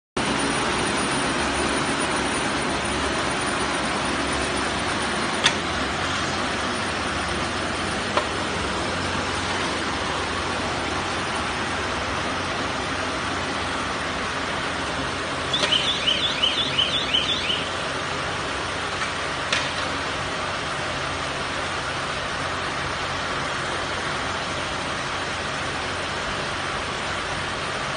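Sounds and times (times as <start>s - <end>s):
baler machine droning: 0.2s - 27.9s.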